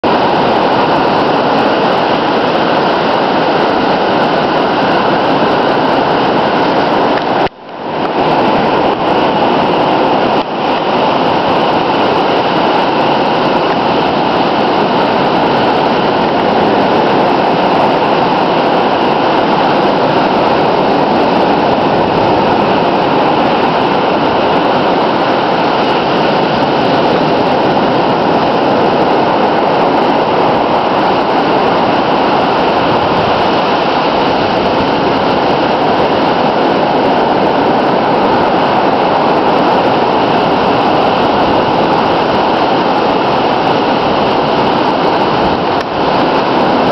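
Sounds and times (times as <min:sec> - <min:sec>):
ocean waves breaking: 0:00.0 - 0:46.9.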